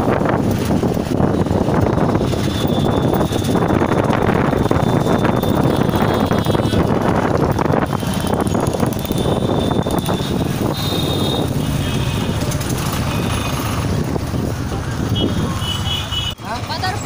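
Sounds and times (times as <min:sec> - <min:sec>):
auto-rickshaw engine droning: 0:00.0 - 0:17.0
city traffic: 0:00.0 - 0:17.0
wind and road noise: 0:00.0 - 0:17.0.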